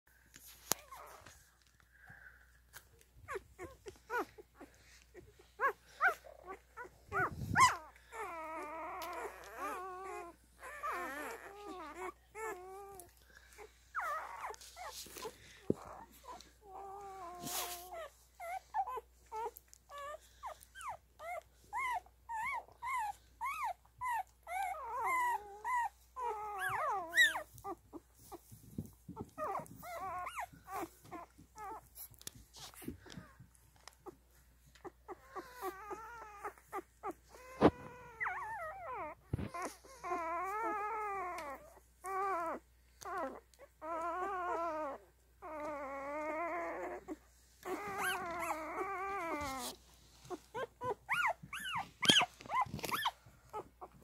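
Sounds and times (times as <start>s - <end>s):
puppies squeaking and whimpering: 0.6s - 1.6s, 2.6s - 54.0s.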